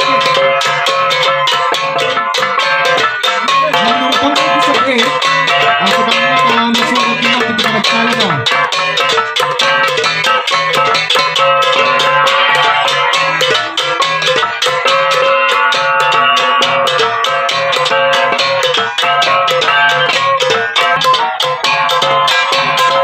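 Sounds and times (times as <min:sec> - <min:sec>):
gong ensemble playing: 0:00.0 - 0:23.0
low repeating beat: 0:00.0 - 0:23.0.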